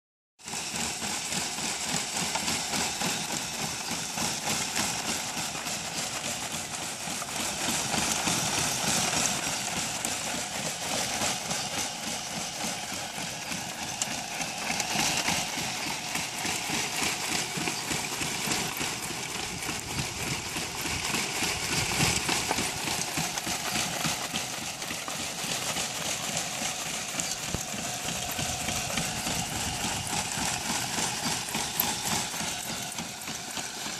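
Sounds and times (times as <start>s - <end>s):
sieve rattling: 2.0s - 33.9s.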